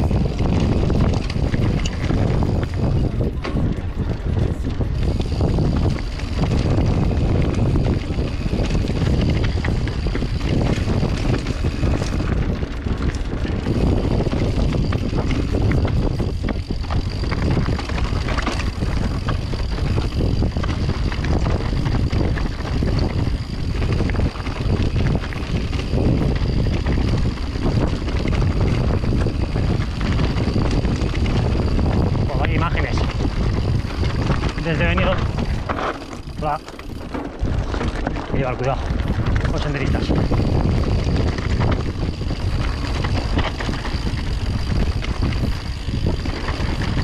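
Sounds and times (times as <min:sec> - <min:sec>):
bike clattering: 0:00.0 - 0:47.0
wind buffeting microphone: 0:00.0 - 0:47.0.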